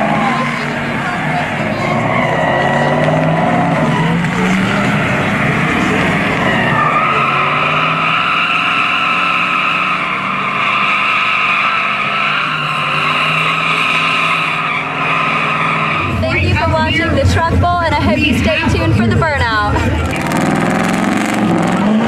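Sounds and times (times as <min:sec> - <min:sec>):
truck tyres squealing: 0:00.0 - 0:22.0.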